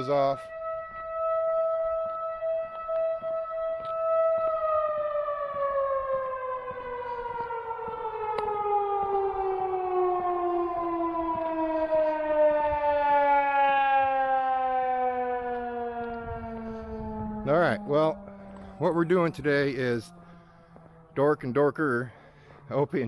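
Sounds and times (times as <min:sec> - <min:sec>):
siren winding down: 0:00.0 - 0:23.0.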